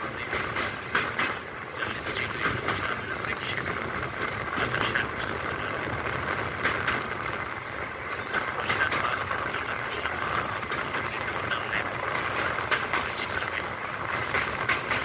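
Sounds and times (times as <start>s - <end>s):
train rushing rumble: 0.0s - 15.0s
wheels clattering on rails: 0.0s - 15.0s.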